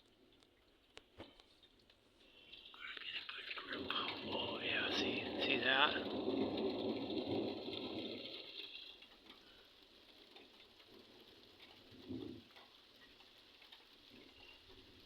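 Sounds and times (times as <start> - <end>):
thunder rumbling: 2.6 - 15.0.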